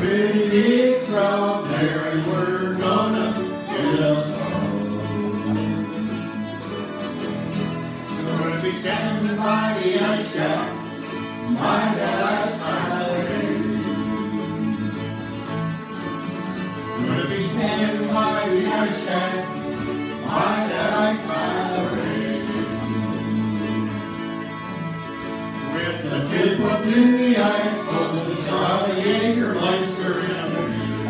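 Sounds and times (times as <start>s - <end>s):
group singing: 0.0s - 15.5s, 16.9s - 24.6s, 25.6s - 31.0s
acoustic guitar: 0.0s - 31.0s.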